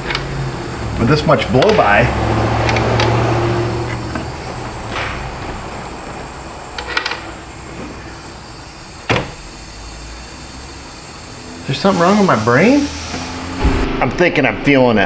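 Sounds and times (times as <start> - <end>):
compressed air hissing: 0.0 - 13.9.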